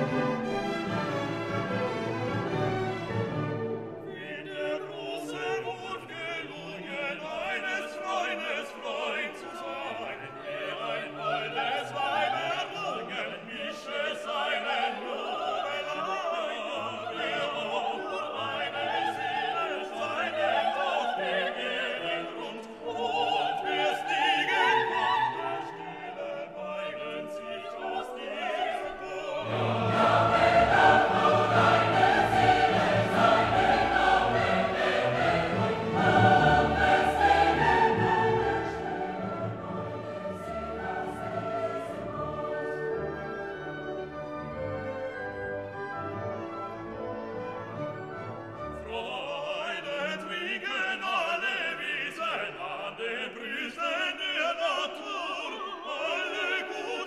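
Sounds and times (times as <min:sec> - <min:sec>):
orchestral music: 0:00.0 - 0:50.6
choir singing operatically: 0:00.0 - 0:57.0.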